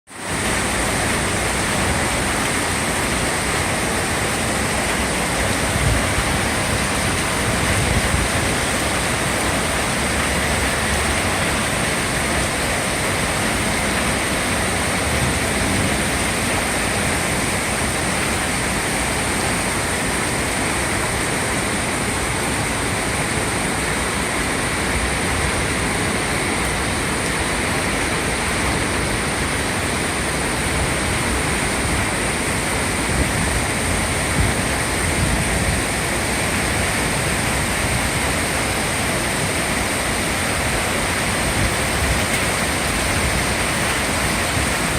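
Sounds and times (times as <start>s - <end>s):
hard rain falling: 0.1s - 44.9s
river rushing over falls: 0.1s - 44.9s.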